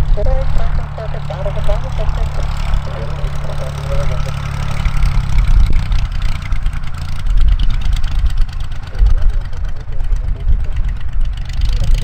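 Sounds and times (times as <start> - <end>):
propeller plane engine taxiing: 0.0 - 12.0.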